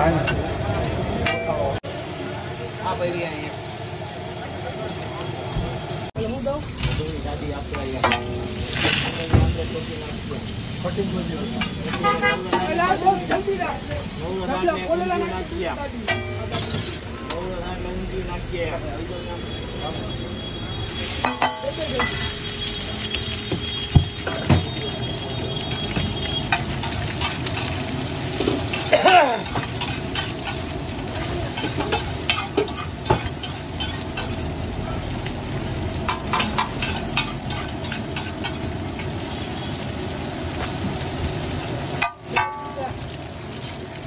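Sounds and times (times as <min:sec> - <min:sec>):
omelette sizzling on a griddle: 0:06.2 - 0:44.0.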